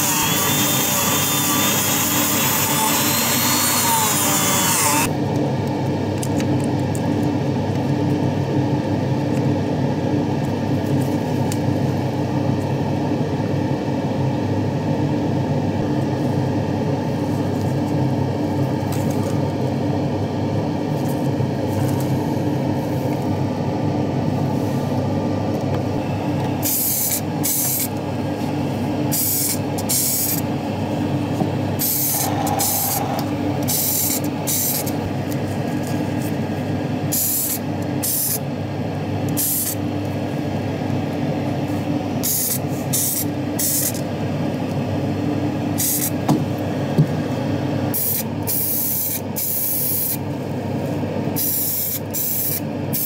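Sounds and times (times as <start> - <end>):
steady low hum: 5.0 - 48.0.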